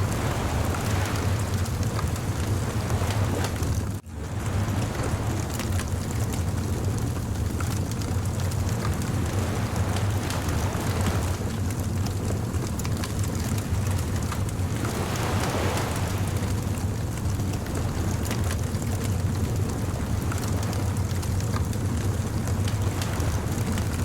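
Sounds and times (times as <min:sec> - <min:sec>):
wood fire crackling: 0:00.0 - 0:23.9
surf rumble: 0:00.0 - 0:24.0
wave washing in: 0:00.0 - 0:24.0.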